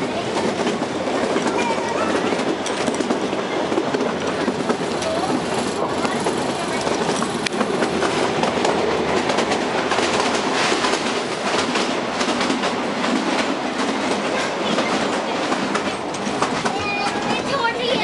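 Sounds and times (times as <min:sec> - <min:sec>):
wheels clacking over rail joints: 0:00.1 - 0:18.0.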